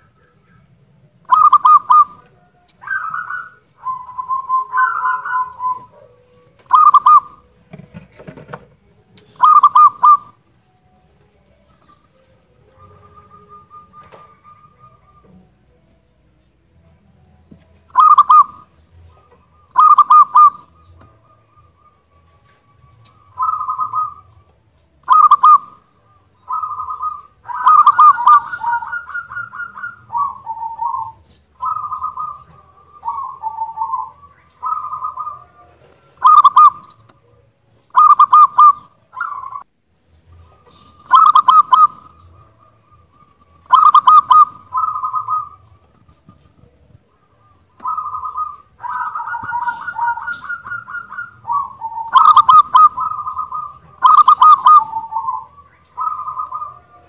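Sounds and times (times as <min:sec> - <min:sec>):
dove cooing: 0:00.0 - 0:10.9, 0:11.7 - 0:15.6, 0:17.8 - 0:39.7, 0:40.4 - 0:57.0.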